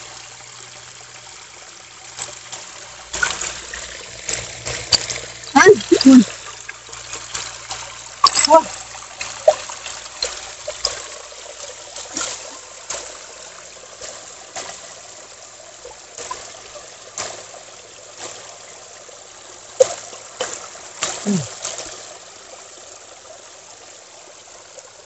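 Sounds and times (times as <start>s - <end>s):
water trickling into pool: 0.0s - 25.0s.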